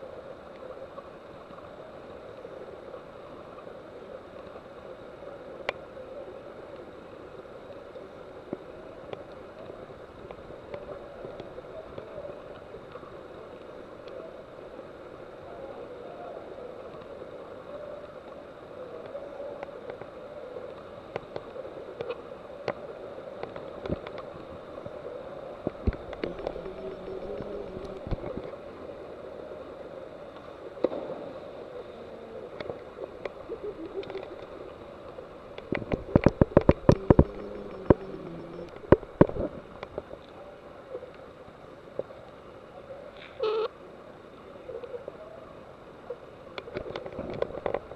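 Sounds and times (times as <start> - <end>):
water washing in a cave pool: 0.0 - 47.9.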